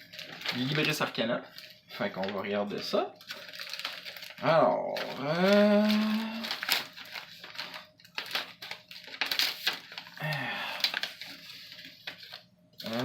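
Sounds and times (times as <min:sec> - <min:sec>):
packaging rustling and tearing: 0:00.0 - 0:13.0.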